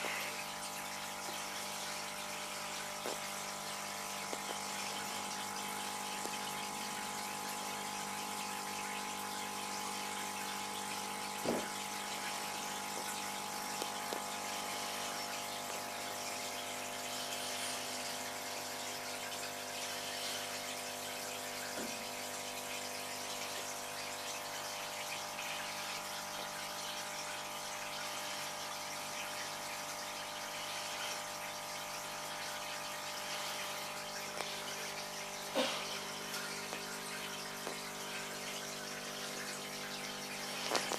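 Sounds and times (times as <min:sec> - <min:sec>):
aquarium pump humming: 0:00.0 - 0:40.9
moving water: 0:00.0 - 0:40.9.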